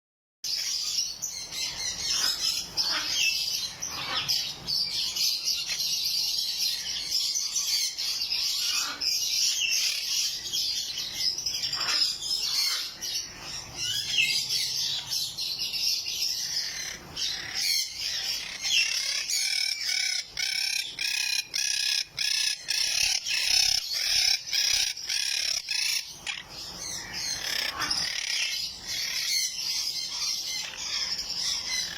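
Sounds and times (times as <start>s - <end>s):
parakeets chattering: 0.5s - 31.9s.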